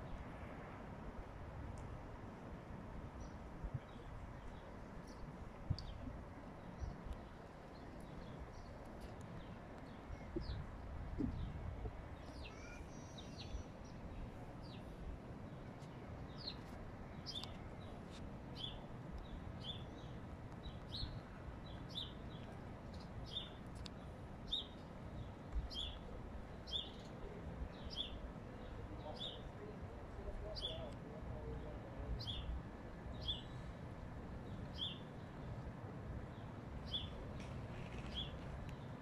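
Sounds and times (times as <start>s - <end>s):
low steady background noise: 0.0s - 39.0s.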